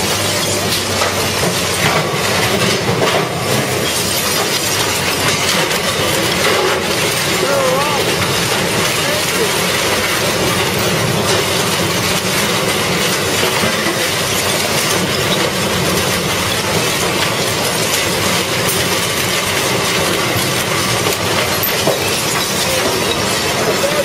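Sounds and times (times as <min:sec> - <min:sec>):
industrial shredder grinding: 0:00.0 - 0:24.0.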